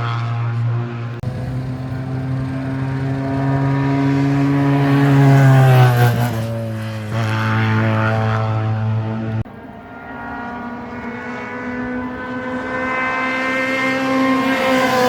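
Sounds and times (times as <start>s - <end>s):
racing car engine at full throttle: 0.0s - 15.0s.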